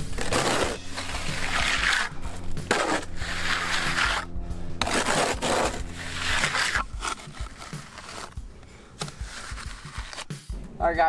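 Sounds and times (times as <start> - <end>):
trowel scraping wet stucco: 0.0 - 8.4, 9.0 - 10.3.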